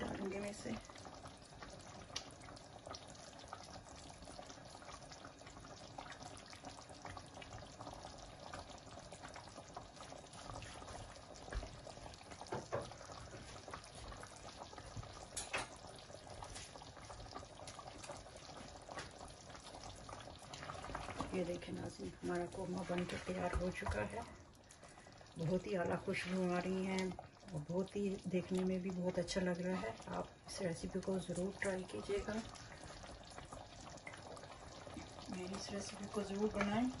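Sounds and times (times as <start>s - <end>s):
pot bubbling and sizzling: 0.0s - 37.0s.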